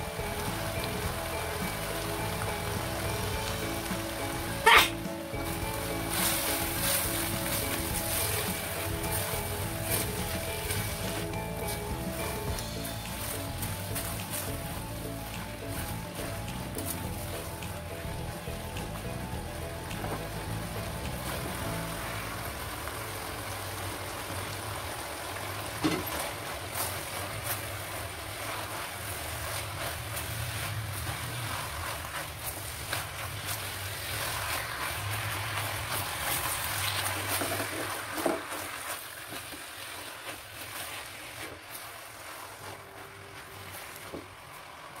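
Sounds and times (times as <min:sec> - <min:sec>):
food sizzling in a wok: 0:00.0 - 0:45.0.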